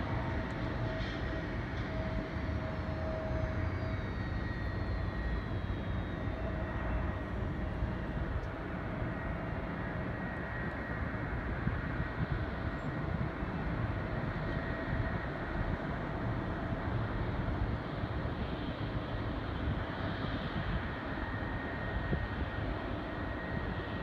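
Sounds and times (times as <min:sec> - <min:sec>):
jet engine spooling down: 0:00.0 - 0:24.0
jet engines rumbling and whining: 0:00.0 - 0:24.0.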